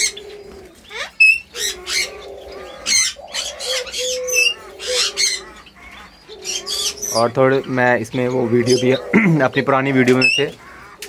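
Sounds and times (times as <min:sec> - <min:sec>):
bird cooing: 0:00.0 - 0:11.0
birds squawking and chirping: 0:00.0 - 0:11.0.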